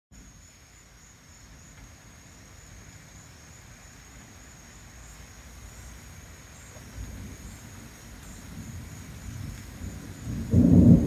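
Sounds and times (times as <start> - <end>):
night insects chorus: 0.2 - 11.0.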